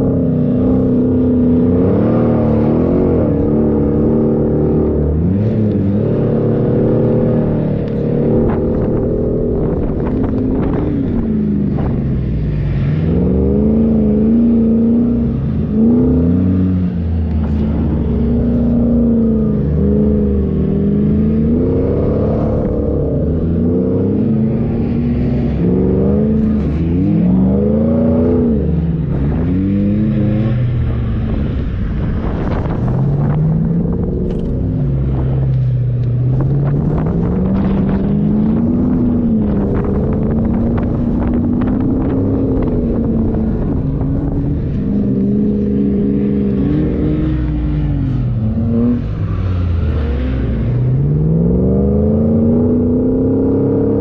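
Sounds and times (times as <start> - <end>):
engine revving up and down: 0.0 - 54.0.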